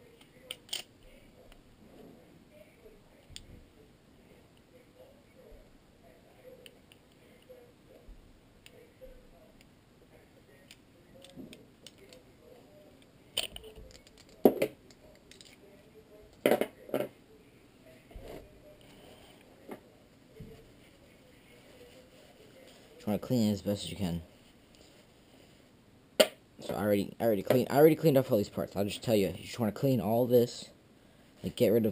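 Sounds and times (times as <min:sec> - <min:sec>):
quiet fiddling with pistol parts: 0:00.0 - 0:25.8.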